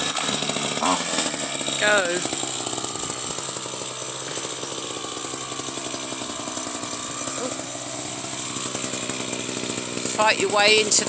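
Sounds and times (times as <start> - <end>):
pole chainsaw running: 0.0 - 11.0.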